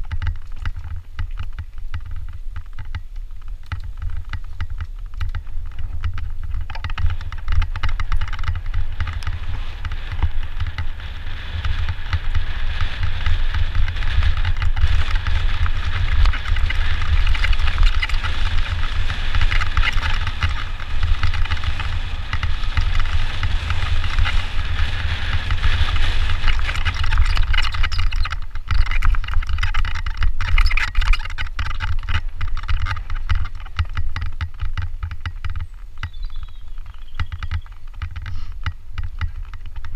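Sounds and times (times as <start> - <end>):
bike rattling and ticking: 0.0 - 39.9
bike tyres crunching over dirt: 0.0 - 39.9
wind rumble on microphone: 0.0 - 39.9.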